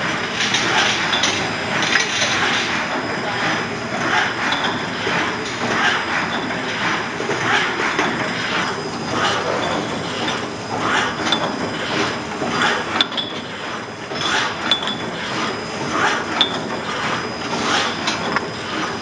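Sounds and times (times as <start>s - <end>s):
printing machine mechanical swish: 0.0s - 19.0s.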